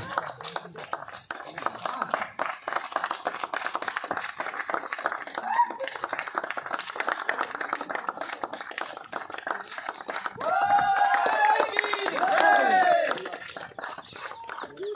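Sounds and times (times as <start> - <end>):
crowd clapping: 0.0 - 14.9.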